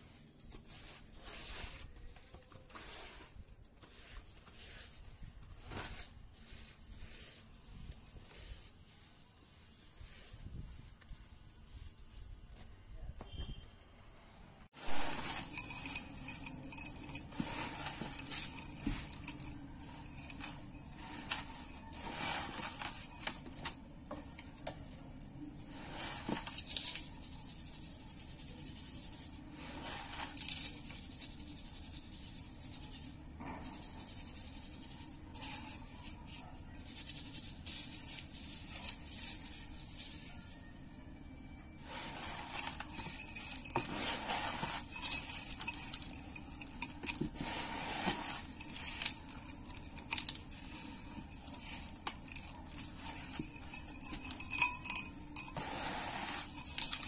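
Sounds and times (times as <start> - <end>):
sand scraping and rustling: 0.0 - 12.8, 14.7 - 40.7, 41.8 - 57.0
sand pouring into a pot: 2.7 - 10.8, 14.7 - 24.0, 25.6 - 36.2, 36.8 - 40.3, 41.8 - 57.0.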